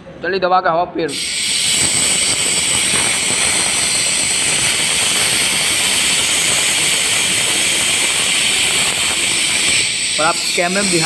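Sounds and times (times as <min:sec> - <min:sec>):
compressed air hissing: 0:01.1 - 0:11.0
spinning bearing high whine: 0:01.2 - 0:11.0.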